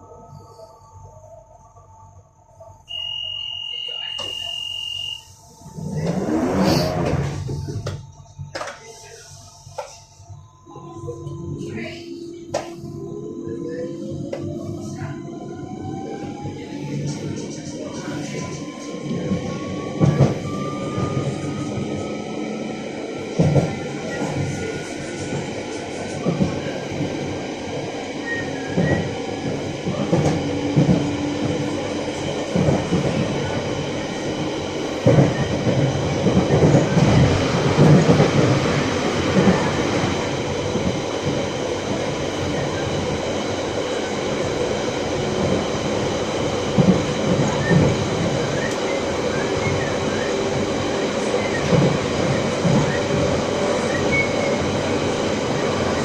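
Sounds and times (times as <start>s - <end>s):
train rumble and rail clatter: 0.0s - 3.0s, 3.7s - 56.0s
steady whining train tones: 0.0s - 56.0s.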